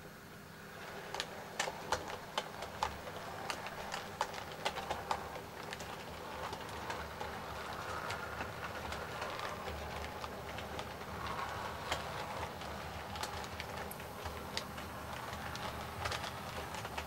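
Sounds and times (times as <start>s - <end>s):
model train running hum: 0.0s - 17.0s
model train wheels clicking: 0.0s - 17.0s.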